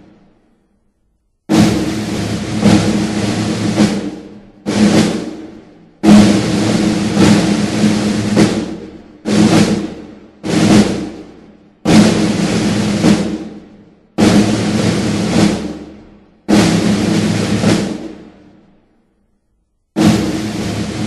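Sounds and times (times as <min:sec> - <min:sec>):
snare drum roll: 0:00.0 - 0:00.3, 0:01.5 - 0:18.8, 0:20.0 - 0:21.0.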